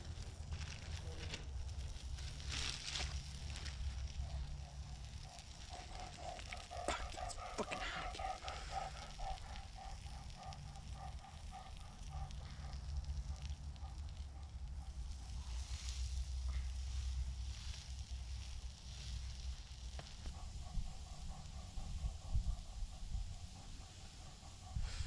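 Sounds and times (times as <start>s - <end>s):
campfire crackling: 0.0s - 21.8s.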